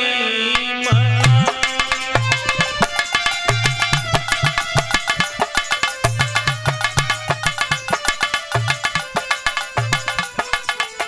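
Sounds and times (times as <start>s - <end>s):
tabla drums fast rhythm: 0.6s - 11.0s.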